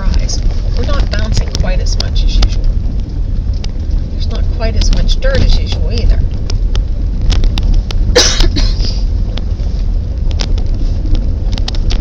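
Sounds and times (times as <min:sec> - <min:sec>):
car road rumble: 0:00.0 - 0:12.0
small clicks and rattles: 0:00.0 - 0:12.0.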